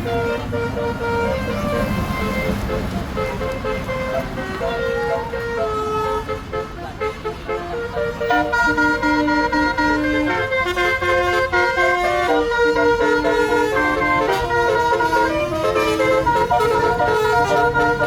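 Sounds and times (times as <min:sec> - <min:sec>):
low vehicle rumble: 0:00.0 - 0:18.0
multi-tone bus horn tune: 0:00.0 - 0:18.0.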